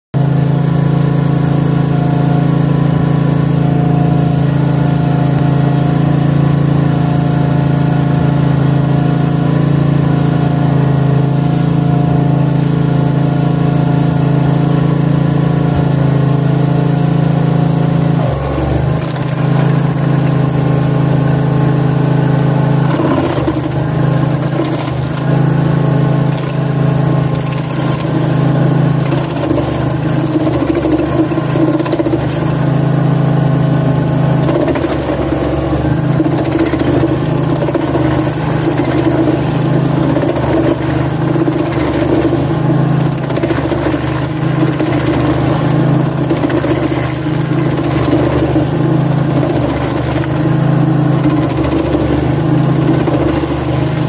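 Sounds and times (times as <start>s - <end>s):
cutter wheel grinding wood: 0.2s - 54.0s
stump grinder engine running: 0.2s - 54.0s.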